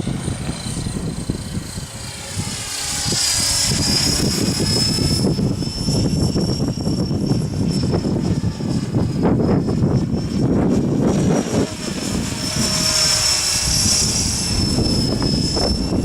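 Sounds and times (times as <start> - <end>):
model helicopter rotor whine: 0.0 - 16.0
wind buffeting microphone: 0.0 - 16.0.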